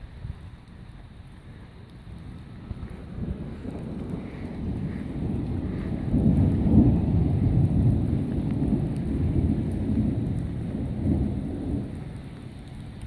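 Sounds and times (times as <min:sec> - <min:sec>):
rolling thunder: 0:02.3 - 0:13.0.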